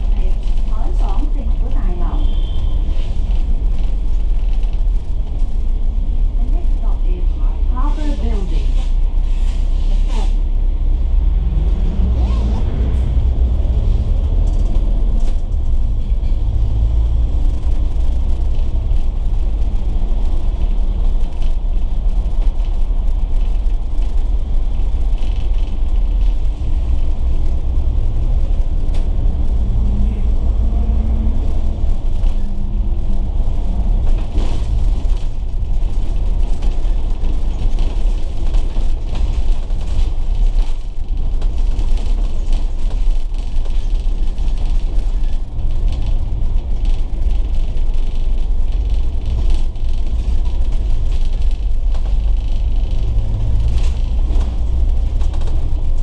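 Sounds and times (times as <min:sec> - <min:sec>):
bus engine rumble and road noise: 0:00.0 - 0:56.0.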